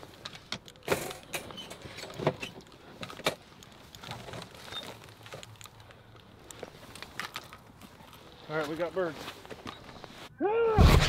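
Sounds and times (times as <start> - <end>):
clothing and gear rustling: 0.0 - 10.3.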